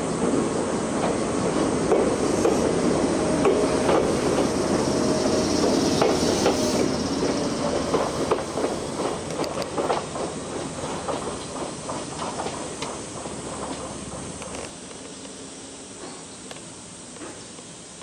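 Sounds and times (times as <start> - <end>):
train wheels clattering on rails: 0.1 - 15.1, 15.9 - 17.7.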